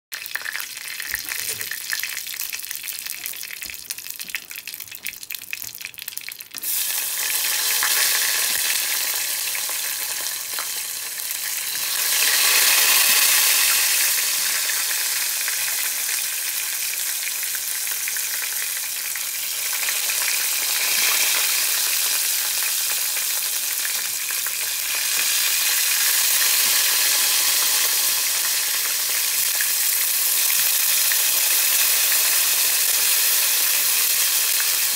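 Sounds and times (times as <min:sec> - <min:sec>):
battered food sizzling in oil: 0:00.1 - 0:34.9
hot oil crackling: 0:00.1 - 0:34.9.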